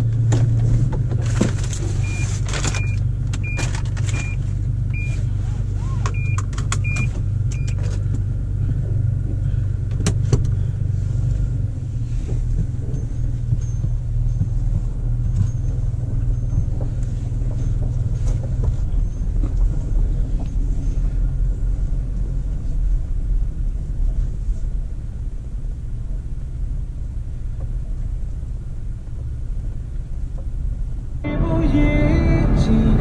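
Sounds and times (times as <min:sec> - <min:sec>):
car interior rumble: 0:00.0 - 0:33.0.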